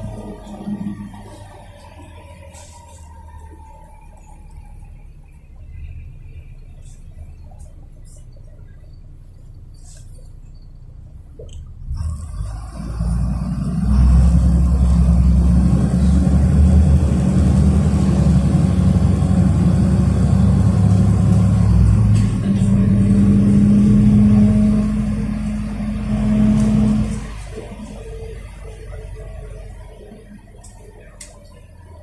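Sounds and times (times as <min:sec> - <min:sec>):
bus engine droning: 0:00.0 - 0:32.0.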